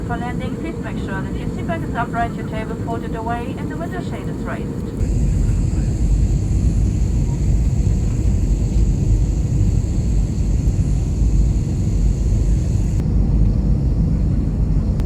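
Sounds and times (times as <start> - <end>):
airplane engine and airflow rumble: 0.0 - 15.0.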